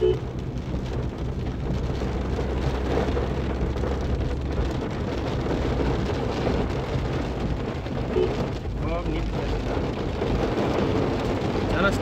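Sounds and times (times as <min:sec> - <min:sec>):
engine and tyres rumbling: 0:00.0 - 0:12.0
rain on car roof: 0:00.0 - 0:12.0.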